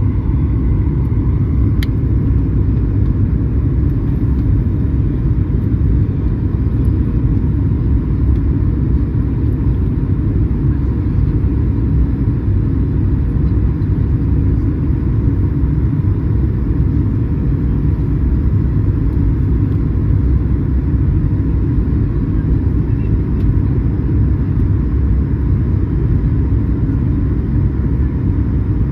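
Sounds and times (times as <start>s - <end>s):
jet engine and airflow rumble: 0.0s - 28.9s.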